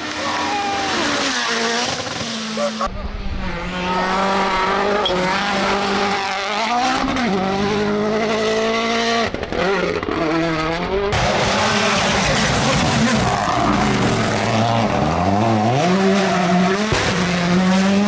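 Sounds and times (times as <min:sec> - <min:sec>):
rally car engine at high revs: 0:00.0 - 0:18.0.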